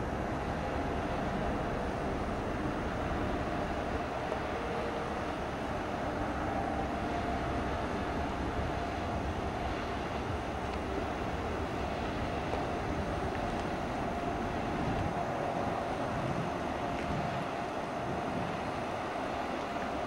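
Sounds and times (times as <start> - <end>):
barge engine drone: 0.0 - 20.0.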